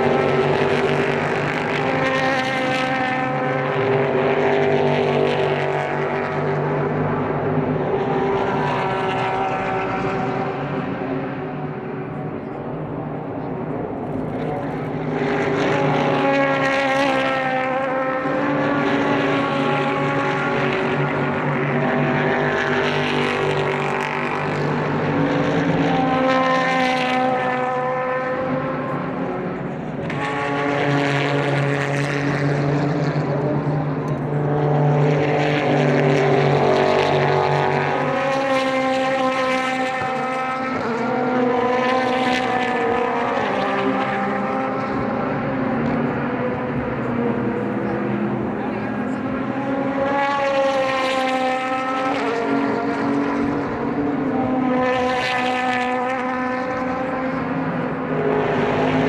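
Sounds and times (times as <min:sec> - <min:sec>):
race cars passing by: 0:00.0 - 0:59.0.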